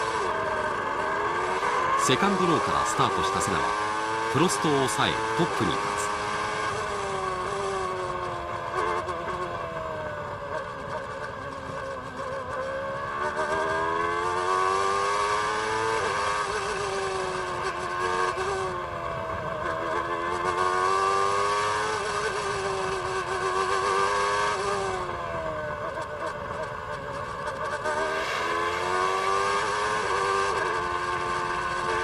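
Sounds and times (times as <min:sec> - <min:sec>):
racing car engine revving: 0:00.0 - 0:09.8, 0:10.5 - 0:18.8, 0:19.5 - 0:25.2, 0:27.4 - 0:32.0.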